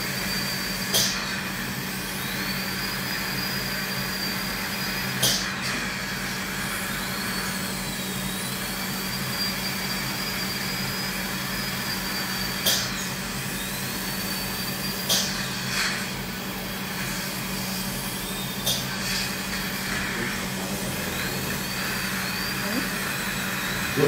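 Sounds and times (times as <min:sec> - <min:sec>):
dental drill whining: 0:00.0 - 0:24.0.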